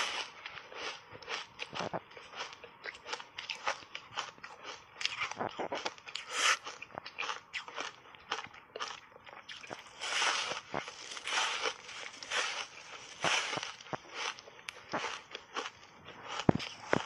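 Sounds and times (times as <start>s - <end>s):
ice being chewed and crunched: 0.0s - 17.0s.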